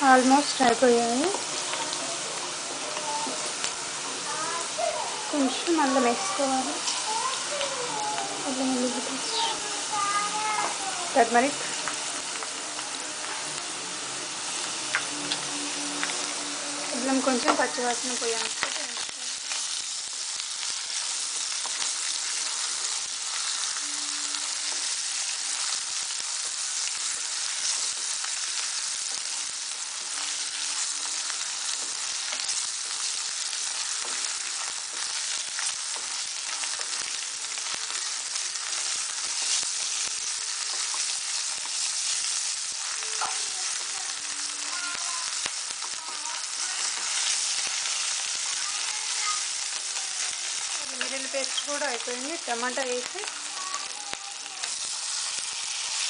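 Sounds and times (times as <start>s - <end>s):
onions sizzling in hot oil: 0.0s - 56.0s.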